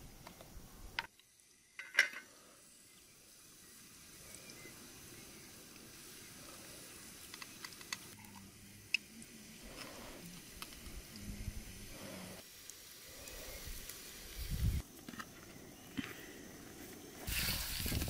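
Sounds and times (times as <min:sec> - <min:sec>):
food sizzling in a pot: 0:01.0 - 0:14.8, 0:17.2 - 0:18.0.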